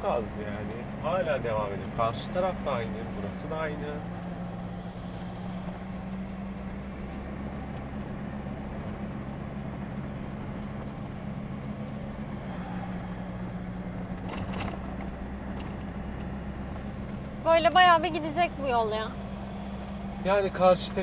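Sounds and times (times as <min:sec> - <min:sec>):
car engine running: 0:00.0 - 0:21.0
road and tyre noise: 0:00.0 - 0:21.0.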